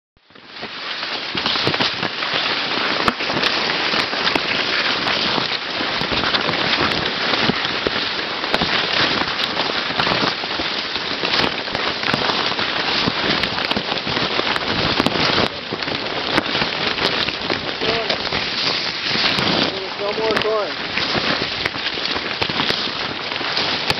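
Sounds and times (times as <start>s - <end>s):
corn leaves rustling and slapping: 0.3s - 23.9s.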